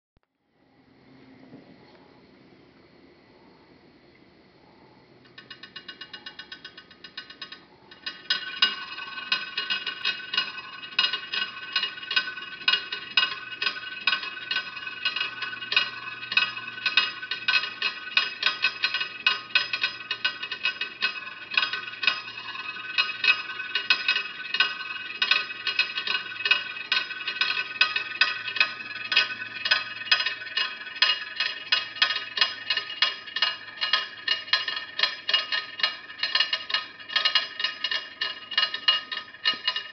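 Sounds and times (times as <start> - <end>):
pop-pop boat motor ticking: 5.3 - 39.9.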